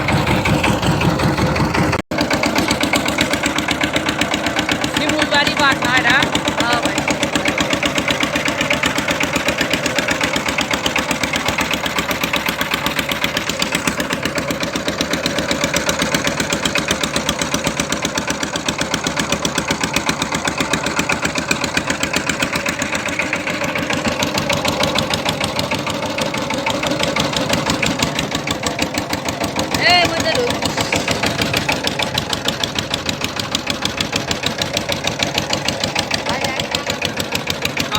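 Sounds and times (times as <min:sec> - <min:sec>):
motorboat engine chugging: 0:00.0 - 0:37.9.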